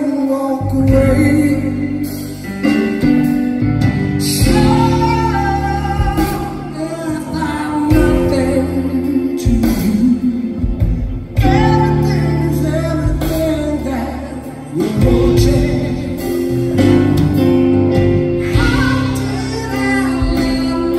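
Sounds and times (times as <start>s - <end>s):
electric bass guitar: 0.0s - 20.9s
keyboard: 0.0s - 20.9s.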